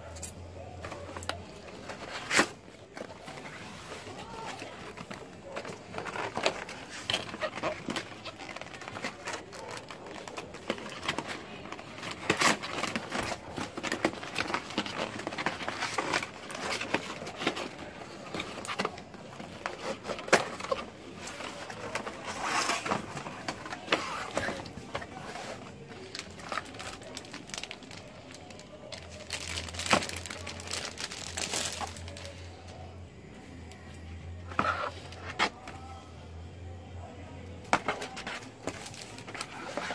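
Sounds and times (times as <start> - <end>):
cardboard and plastic rustling: 0.1 - 36.0, 37.6 - 39.9.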